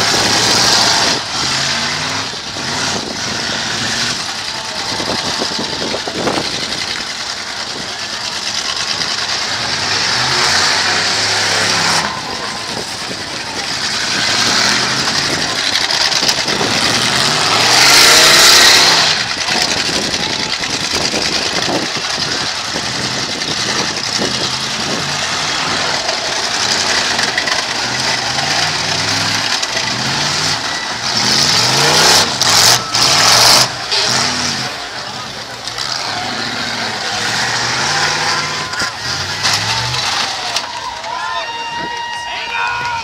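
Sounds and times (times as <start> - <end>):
car engines revving: 0.0 - 43.0
crowd cheering: 0.0 - 43.0.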